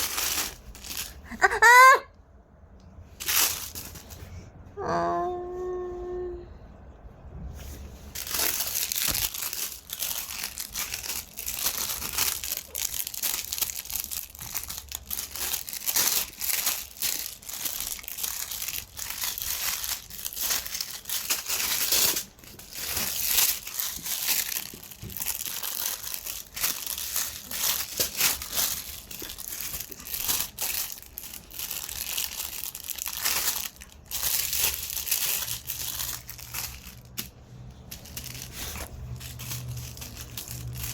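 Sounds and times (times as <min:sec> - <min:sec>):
plastic bag crinkling: 0:00.0 - 0:01.6, 0:03.1 - 0:04.3, 0:07.9 - 0:40.9.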